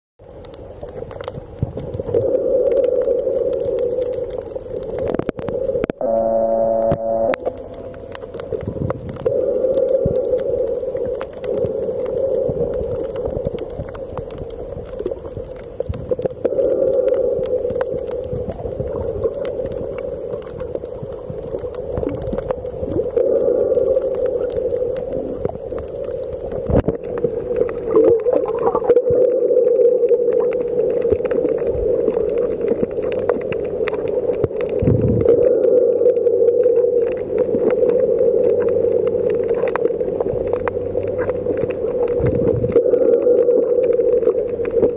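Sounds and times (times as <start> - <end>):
muffled underwater hum: 0.2 - 44.9
underwater clicks and crackles: 0.2 - 44.9.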